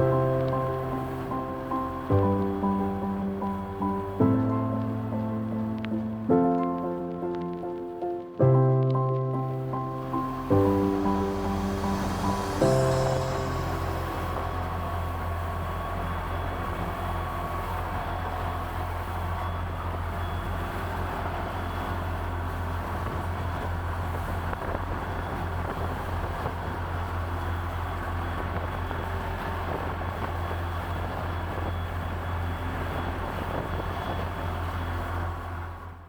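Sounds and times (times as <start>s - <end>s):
water noise: 0.0s - 35.6s
wind noise: 0.0s - 35.8s
boat engine droning: 0.0s - 36.0s.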